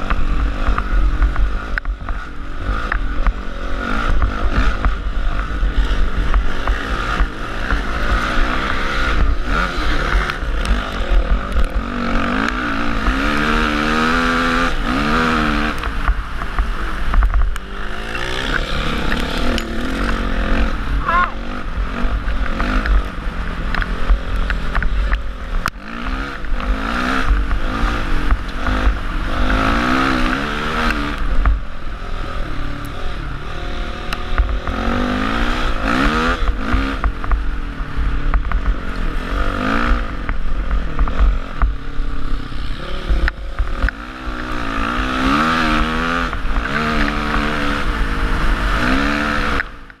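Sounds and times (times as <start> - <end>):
dirt bike engine revving: 0.0 - 50.0
wind rumbling on microphone: 0.0 - 50.0.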